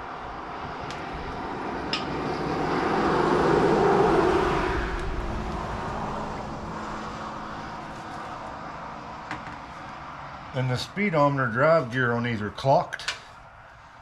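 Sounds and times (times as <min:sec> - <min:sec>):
vehicle passing on highway: 0:00.0 - 0:14.0.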